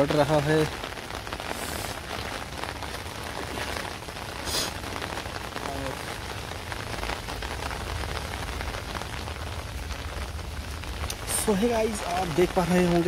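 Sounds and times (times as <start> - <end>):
torrential rain on pavement: 0.0 - 13.0.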